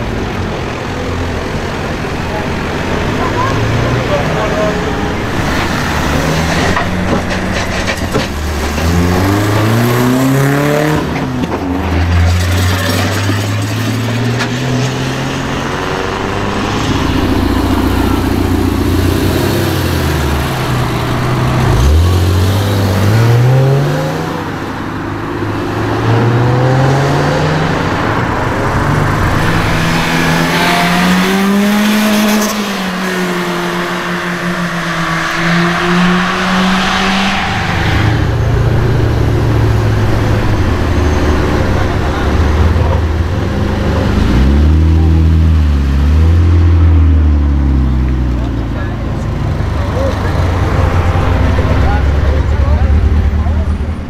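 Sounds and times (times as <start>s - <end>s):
car engines accelerating hard: 0.0s - 54.0s.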